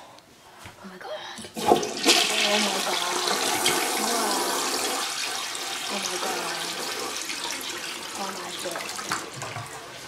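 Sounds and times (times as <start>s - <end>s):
toilet flushing: 1.5s - 10.0s.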